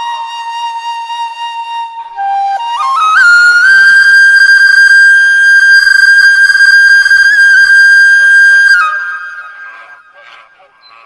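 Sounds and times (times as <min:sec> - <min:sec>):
flute holding a high note: 0:00.0 - 0:10.7.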